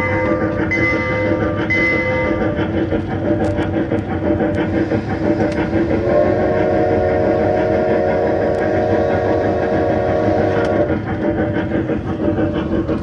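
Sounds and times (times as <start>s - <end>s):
tour train ride noise: 0.0s - 13.0s.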